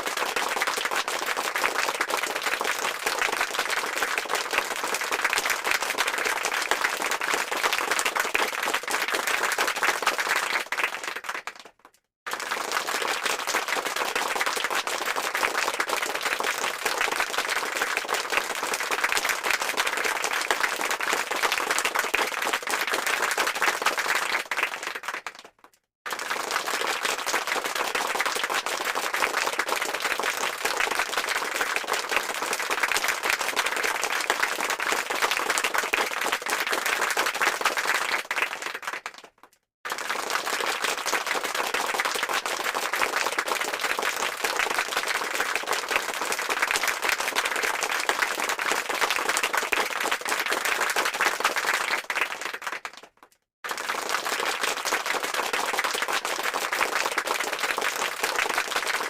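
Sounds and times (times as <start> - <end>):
crowd clapping: 0.0 - 59.0.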